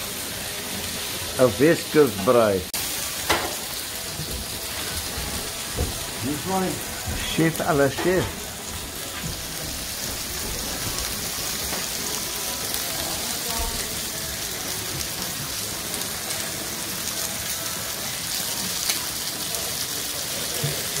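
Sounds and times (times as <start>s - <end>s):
seafood sizzling on a hotplate: 0.0s - 21.0s.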